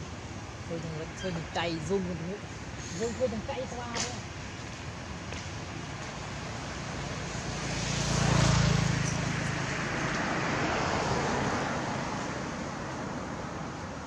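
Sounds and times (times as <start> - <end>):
vehicle passing: 0.6 - 14.0.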